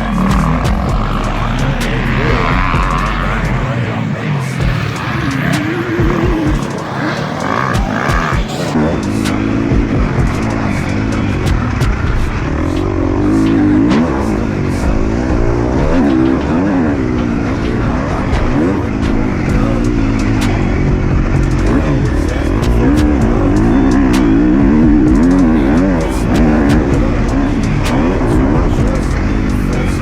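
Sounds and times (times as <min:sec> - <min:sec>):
motocross engine revving: 0:00.0 - 0:30.0.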